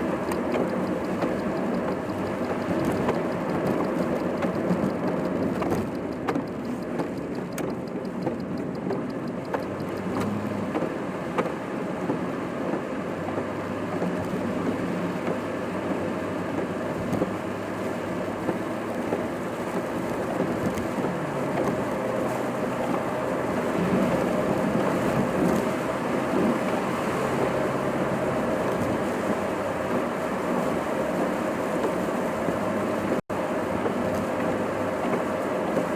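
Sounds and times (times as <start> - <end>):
low engine hum: 0.0 - 35.9
road and tyre noise: 0.0 - 35.9.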